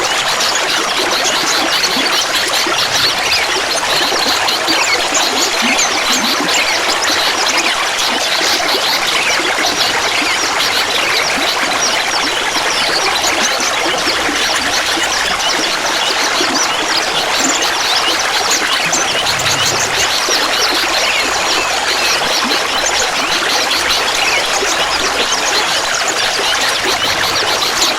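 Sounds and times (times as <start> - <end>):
water trickling and babbling: 0.0 - 27.9.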